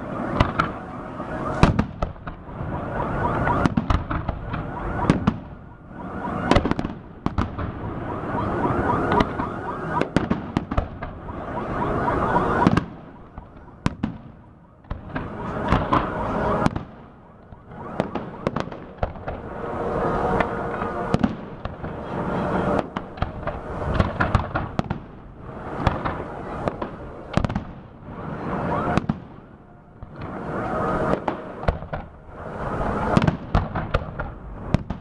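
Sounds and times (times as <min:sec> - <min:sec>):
fireworks bangs: 0:00.0 - 0:35.0.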